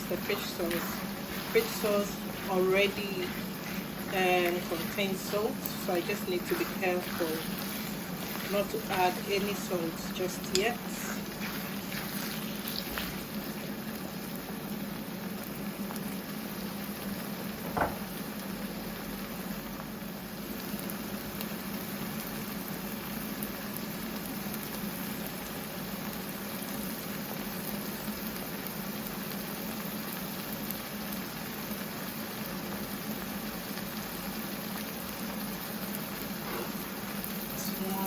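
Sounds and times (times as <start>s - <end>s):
sauce bubbling in a pot: 0.0s - 38.0s.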